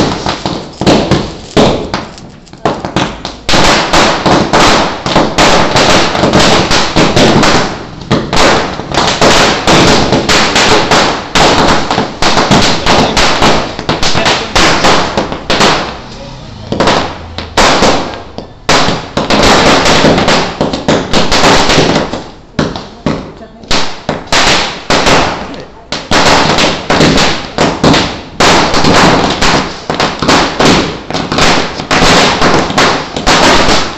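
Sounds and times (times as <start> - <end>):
firecrackers bursting: 0.0 - 33.9.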